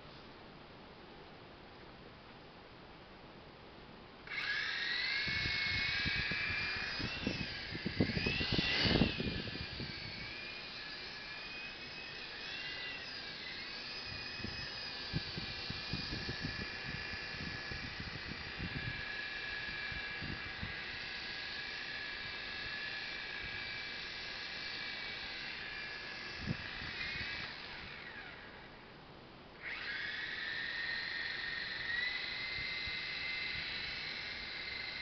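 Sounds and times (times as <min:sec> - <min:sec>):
small electric motors whining: 0:04.2 - 0:29.0, 0:29.6 - 0:35.0.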